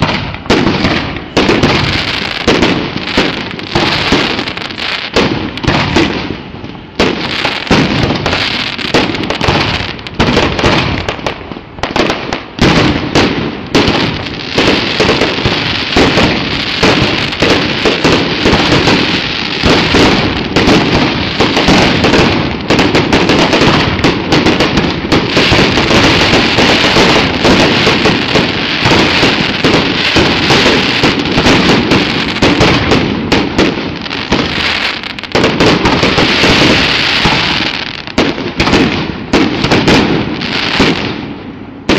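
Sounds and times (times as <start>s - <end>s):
fireworks banging: 0.0s - 41.9s.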